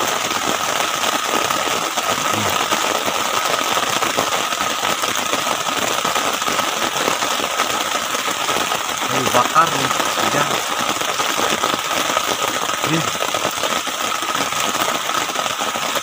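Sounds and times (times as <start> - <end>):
heavy rain on a tent: 0.0 - 16.0.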